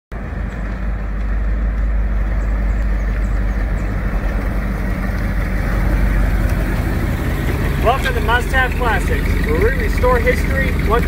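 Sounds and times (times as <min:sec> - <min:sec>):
car engine exhaust rumble: 0:00.1 - 0:11.0.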